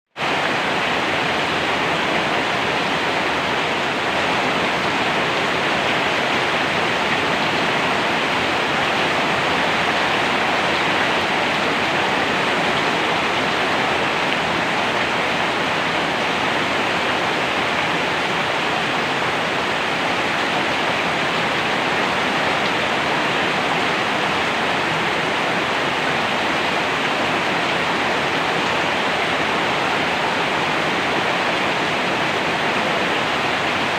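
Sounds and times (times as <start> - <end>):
steady rain: 0.1 - 33.9.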